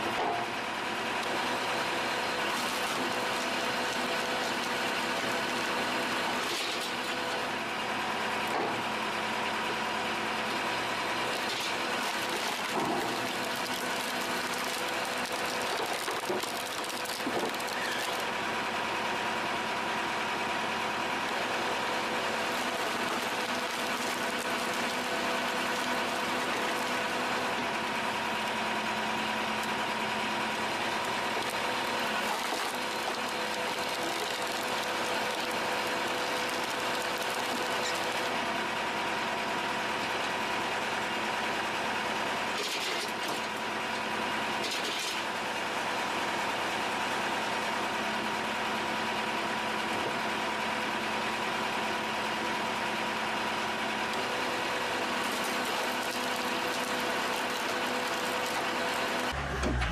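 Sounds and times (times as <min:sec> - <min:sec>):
log splitter engine hum: 0:00.0 - 0:59.9.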